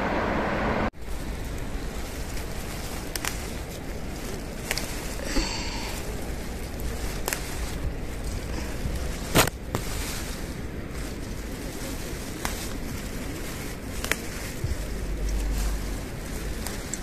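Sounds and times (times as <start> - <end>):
leaves rustling: 0.9 - 17.0
plant stems snapping: 1.0 - 17.0.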